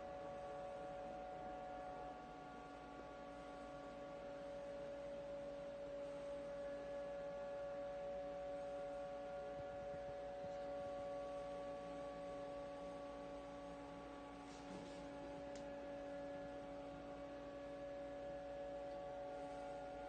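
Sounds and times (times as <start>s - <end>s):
faint machine hum with whining tones: 0.0s - 20.0s.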